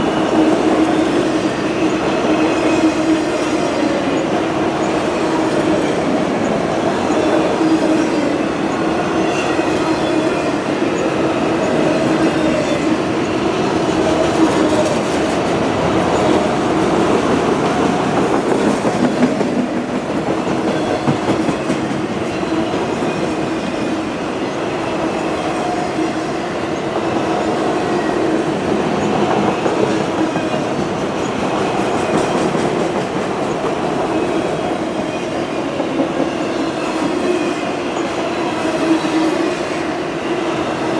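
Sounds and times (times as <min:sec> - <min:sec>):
freight train wheels on rails: 0:00.0 - 0:40.9.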